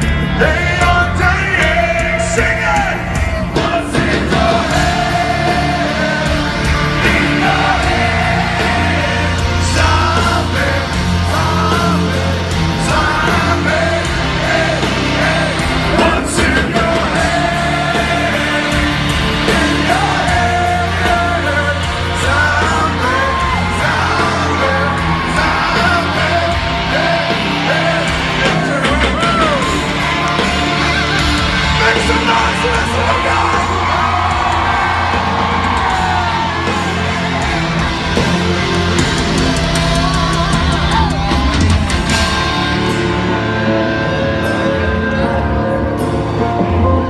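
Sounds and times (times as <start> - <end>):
live heavy metal band: 0.0 - 47.0
singing and yelling voices: 0.0 - 47.0.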